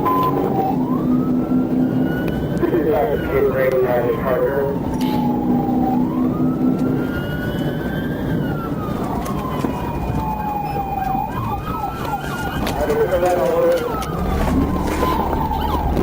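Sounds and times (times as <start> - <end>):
car engine and road noise: 0.0 - 16.0
police siren wailing and yelping: 0.0 - 16.0.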